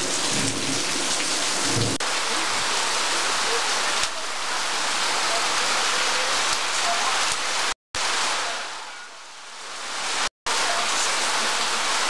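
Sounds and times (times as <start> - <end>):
rain on corrugated roof: 0.0 - 12.0.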